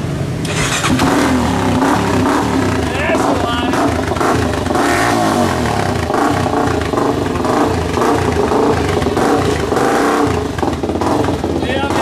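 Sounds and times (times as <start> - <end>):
dirt bike engine revving: 0.4 - 12.0.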